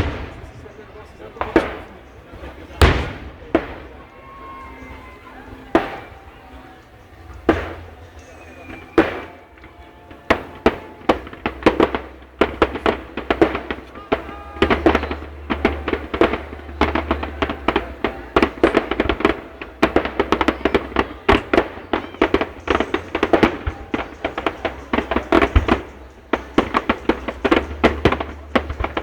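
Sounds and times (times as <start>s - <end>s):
fireworks crackling bangs: 0.0s - 29.0s.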